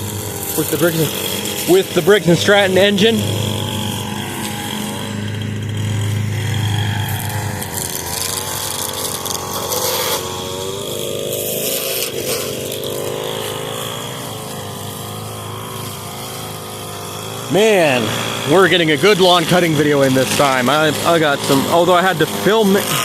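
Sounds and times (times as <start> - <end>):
riding mower engine drone: 0.0 - 23.0
string trimmer engine running: 0.0 - 23.0.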